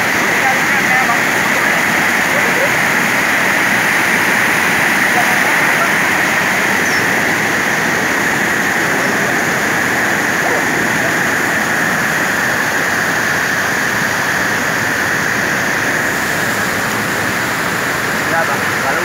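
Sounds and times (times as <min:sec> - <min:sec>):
river rushing through rapids: 0:00.0 - 0:19.0.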